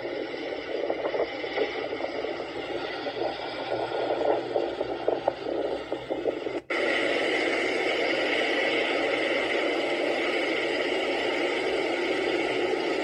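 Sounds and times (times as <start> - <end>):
crackly noise through a speaker: 0.0 - 13.0.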